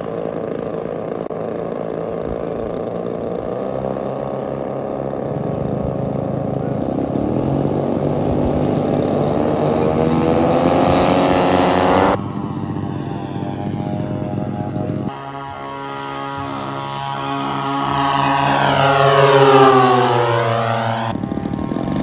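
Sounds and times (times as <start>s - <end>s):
model airplane engines running: 0.0s - 22.0s.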